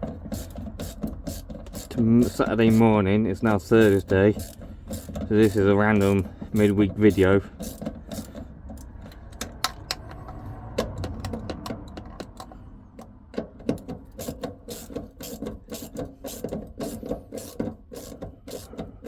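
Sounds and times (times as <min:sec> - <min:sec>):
ratchet clicking: 0:00.0 - 0:12.6, 0:13.3 - 0:19.0.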